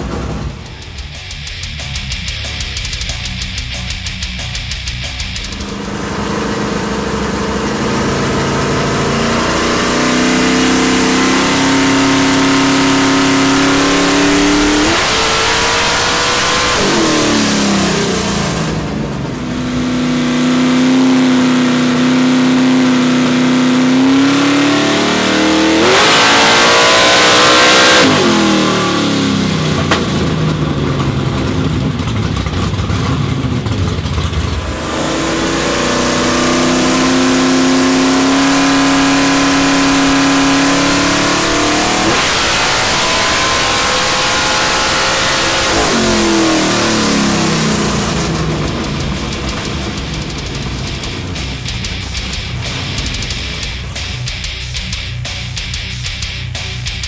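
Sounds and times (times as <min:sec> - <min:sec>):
engine revving hard: 0:00.0 - 0:57.0.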